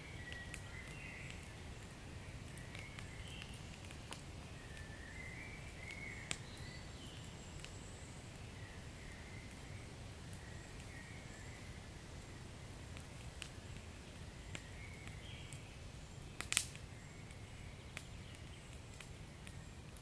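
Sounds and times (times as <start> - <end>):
fire crackling pops: 0.0 - 20.0
wood fire rumbling: 0.1 - 20.0.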